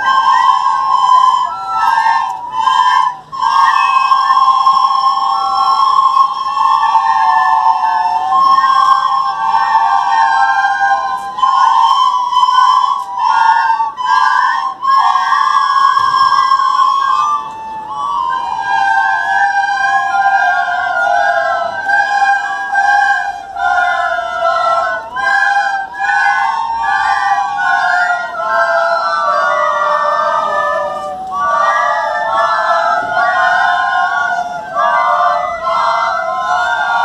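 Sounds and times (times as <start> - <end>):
children playing recorders: 0.0 - 37.0.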